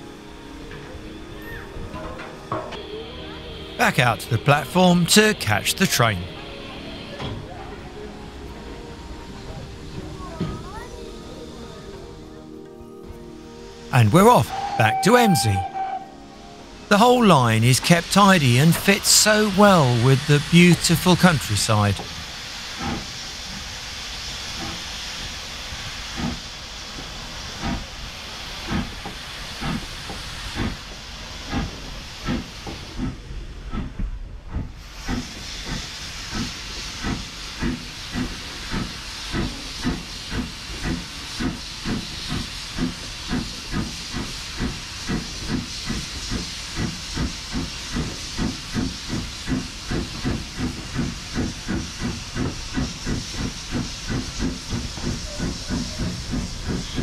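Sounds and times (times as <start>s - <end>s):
steam locomotive chuffing: 0.1s - 12.2s, 13.6s - 57.0s
steam hissing: 1.4s - 12.1s, 13.5s - 57.0s.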